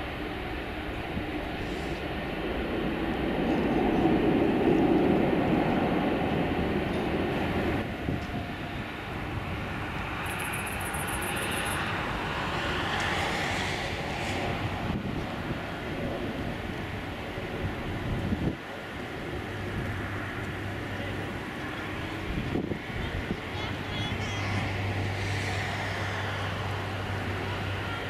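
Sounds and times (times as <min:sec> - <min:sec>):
high-pitched jet whine: 0:00.0 - 0:16.4, 0:21.7 - 0:28.0
jet engines rumble and hiss: 0:00.0 - 0:28.0.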